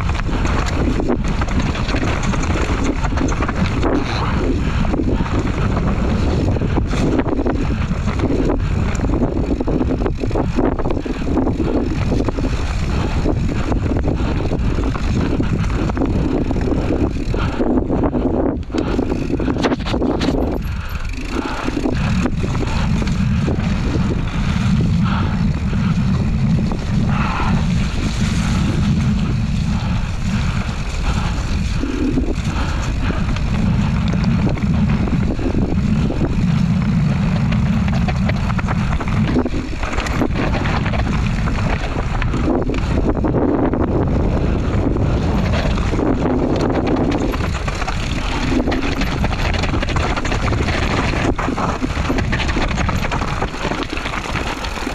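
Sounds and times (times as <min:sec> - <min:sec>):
bike knocking and rattling: 0:00.0 - 0:54.9
tyres rumbling on dirt: 0:00.0 - 0:54.9
wind buffeting microphone: 0:00.0 - 0:54.9.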